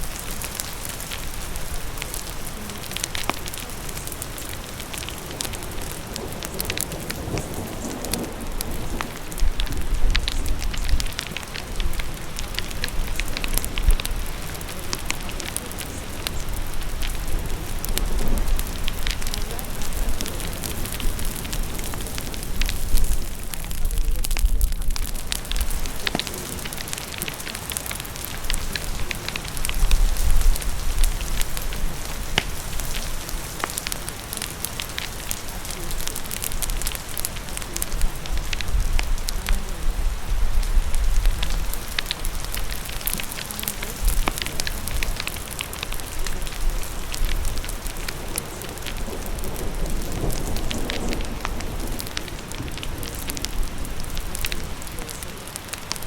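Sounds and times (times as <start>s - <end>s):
fire crackling and popping: 0.0s - 56.0s
steady rain hiss: 0.0s - 56.0s.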